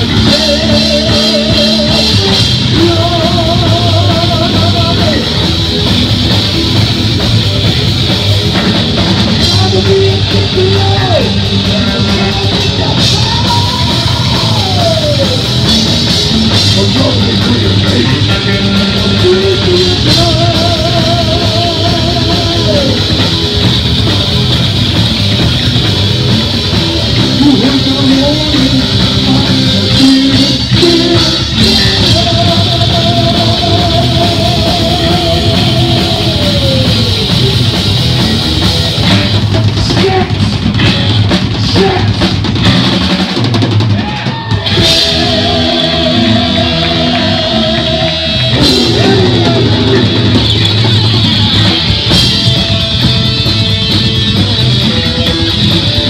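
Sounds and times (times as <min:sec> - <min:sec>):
heavy metal band playing: 0:00.0 - 0:56.0
pounding drum kit: 0:00.0 - 0:56.0.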